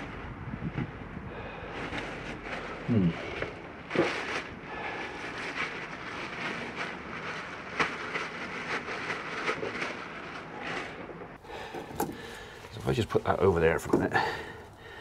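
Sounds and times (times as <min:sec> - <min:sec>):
plastic bag crinkling: 0:01.7 - 0:15.0.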